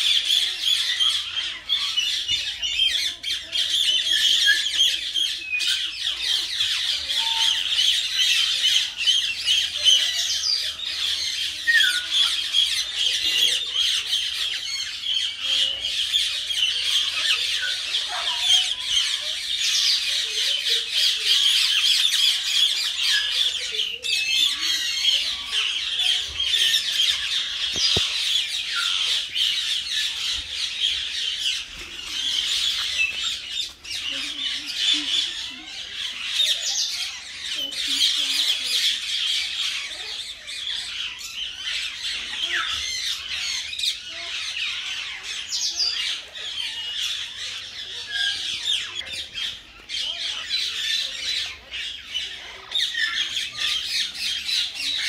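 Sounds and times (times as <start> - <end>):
myna bird squawking chatter: 0.0 - 55.0.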